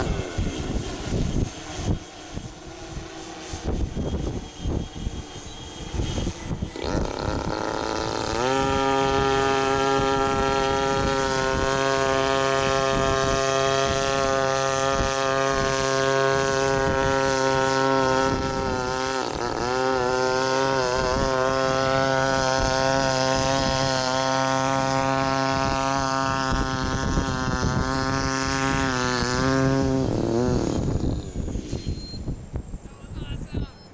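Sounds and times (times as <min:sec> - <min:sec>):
small combustion engine running: 0:00.0 - 0:32.4
hum of rotors: 0:00.0 - 0:33.9.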